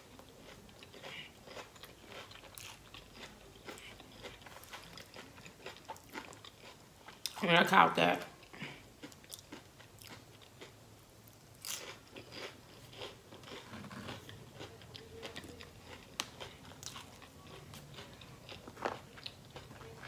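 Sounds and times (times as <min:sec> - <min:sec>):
chewing crunchy food: 0:00.0 - 0:07.4, 0:08.3 - 0:20.0.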